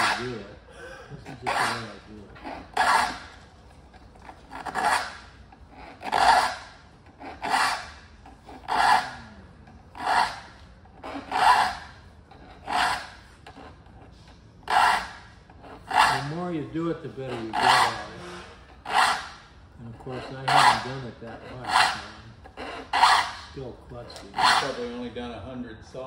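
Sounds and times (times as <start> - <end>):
file rasping on saw teeth: 0.0 - 0.5, 1.2 - 25.0.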